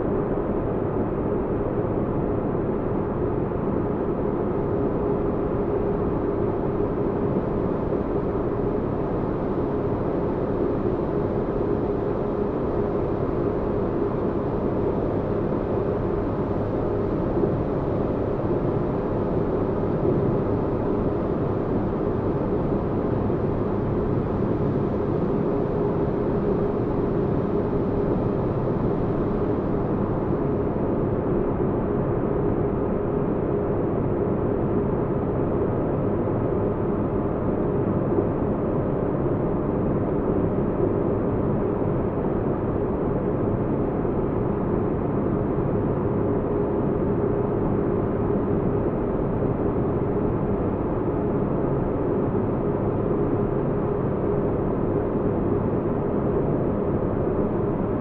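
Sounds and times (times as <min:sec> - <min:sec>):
constant hum: 0:00.0 - 0:58.0.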